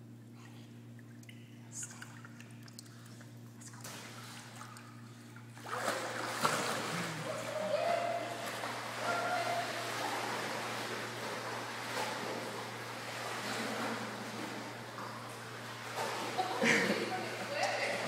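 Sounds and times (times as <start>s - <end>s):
pool water splashing: 0.9s - 18.0s.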